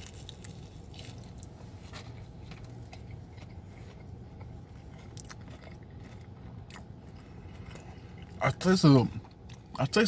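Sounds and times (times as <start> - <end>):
low steady hum: 0.0 - 10.0
person chewing crunchy food: 0.0 - 10.0.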